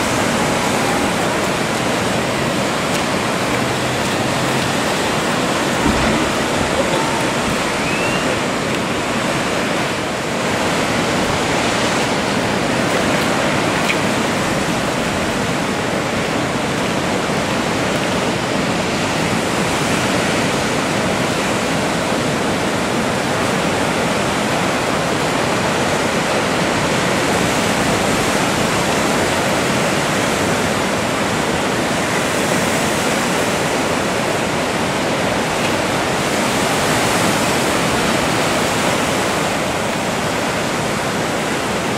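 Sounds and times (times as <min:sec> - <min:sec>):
ocean waves crashing: 0:00.0 - 0:41.9.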